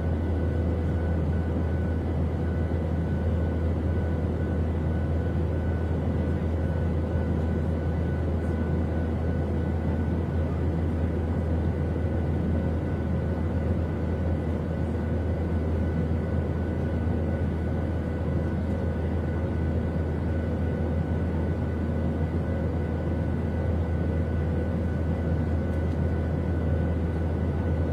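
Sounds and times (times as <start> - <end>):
airliner cabin engine drone: 0.0 - 27.9.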